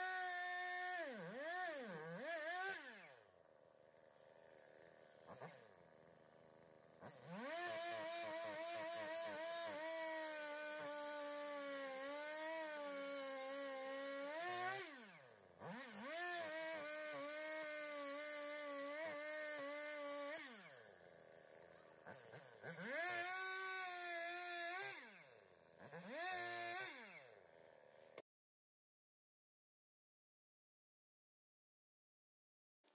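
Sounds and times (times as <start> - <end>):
chainsaw whining and spinning down: 0.0 - 28.2.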